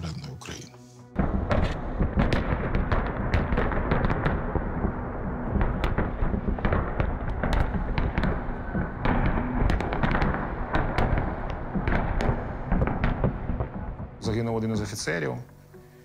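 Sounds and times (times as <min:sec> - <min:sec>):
shelling explosions: 0:01.1 - 0:15.2.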